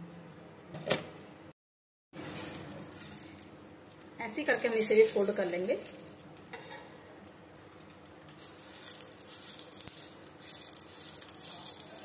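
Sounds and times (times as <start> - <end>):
egg roll sizzling: 2.2 - 12.0.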